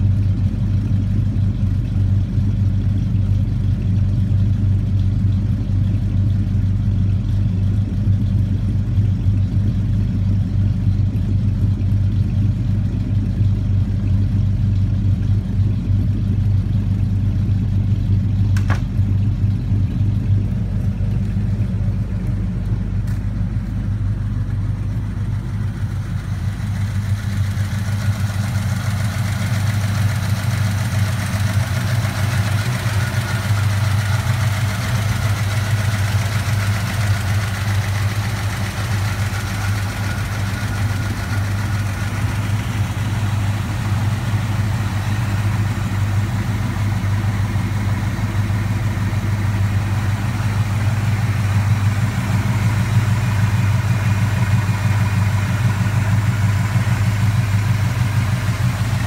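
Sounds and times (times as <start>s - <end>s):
pickup engine idling: 0.0s - 59.0s.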